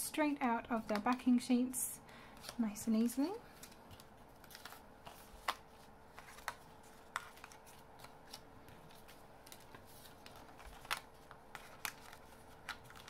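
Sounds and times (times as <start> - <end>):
faint paper rustling: 2.3 - 13.0.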